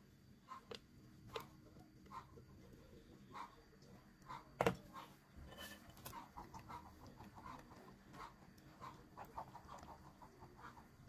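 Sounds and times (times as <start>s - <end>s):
chickens clucking: 0.4s - 11.0s.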